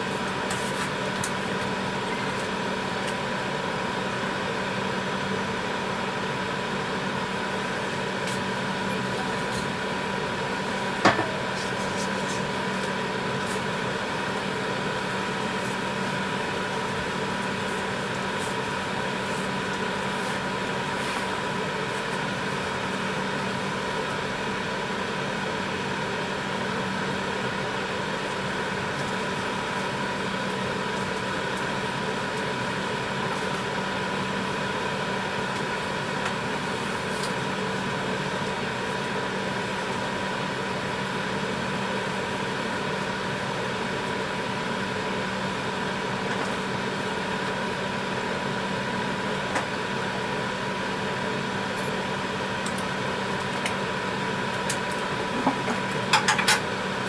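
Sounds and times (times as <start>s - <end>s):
pot boiling on stove: 0.0s - 57.0s
steady mechanical hum: 0.0s - 57.0s.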